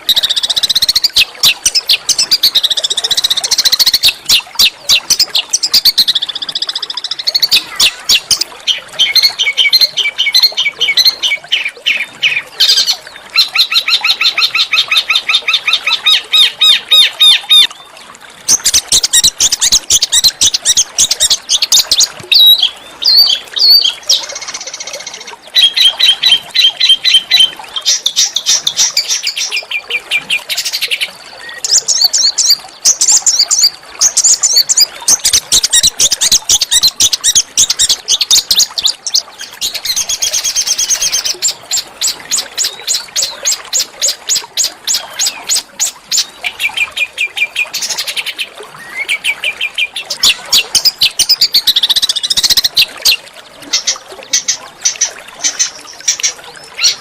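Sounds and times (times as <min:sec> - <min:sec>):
songbirds chirping in rapid trills: 0:00.0 - 0:57.0.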